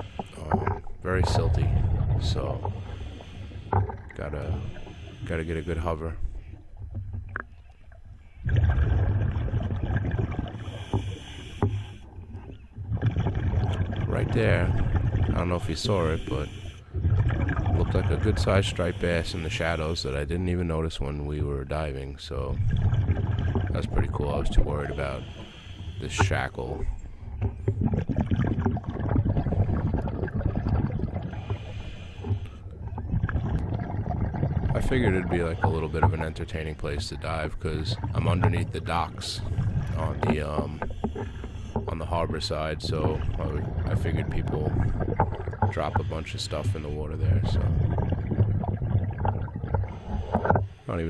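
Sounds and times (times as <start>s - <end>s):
underwater bubbles from diver: 0.0s - 51.0s.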